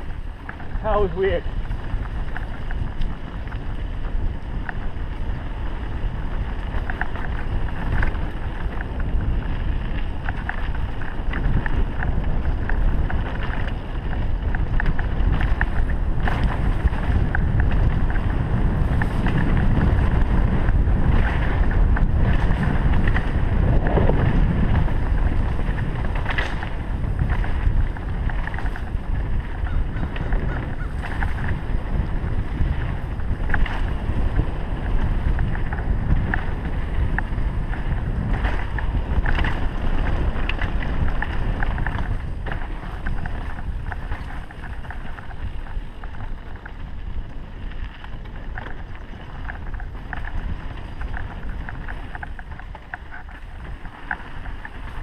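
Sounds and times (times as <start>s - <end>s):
bike rattling and knocking: 0.0s - 55.0s
bike tyre noise on dirt: 0.0s - 55.0s
wind buffeting microphone: 0.0s - 55.0s.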